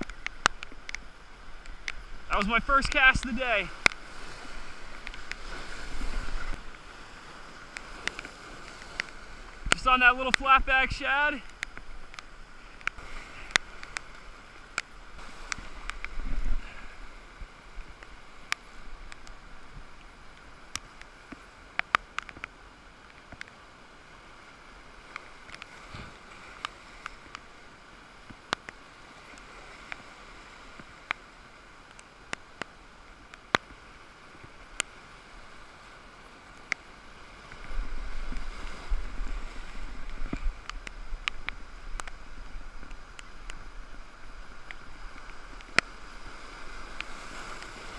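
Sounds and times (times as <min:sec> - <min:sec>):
ocean surf washing: 0:00.0 - 0:47.9.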